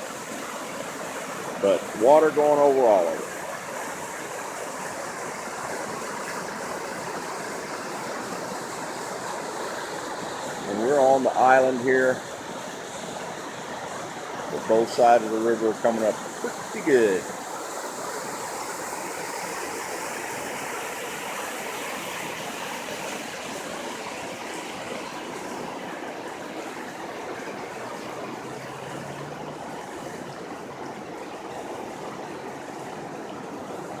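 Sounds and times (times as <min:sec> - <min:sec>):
river water rushing: 0:00.0 - 0:34.0.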